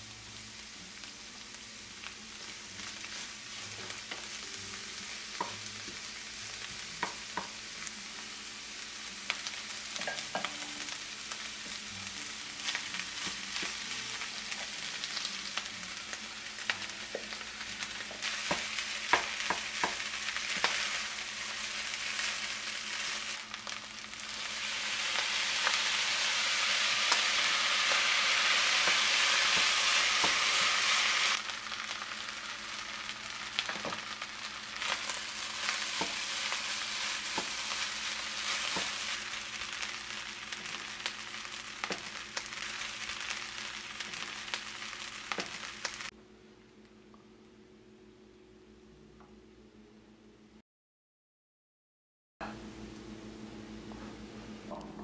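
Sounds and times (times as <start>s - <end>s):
food sizzling in a frying pan: 0.0s - 46.1s.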